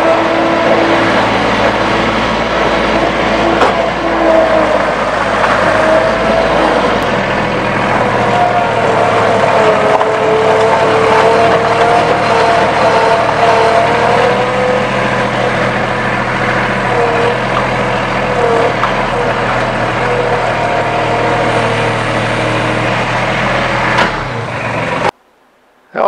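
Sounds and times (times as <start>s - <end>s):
skid loader engine running: 0.0s - 25.2s
wavering fuel pump whine: 0.0s - 25.2s.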